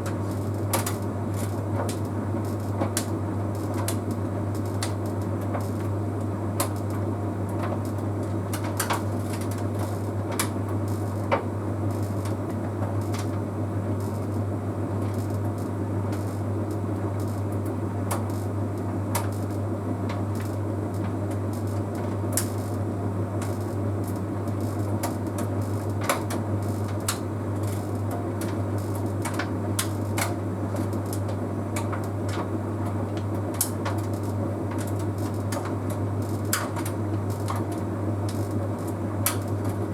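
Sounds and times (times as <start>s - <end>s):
dryer drum rumbling: 0.0s - 39.9s.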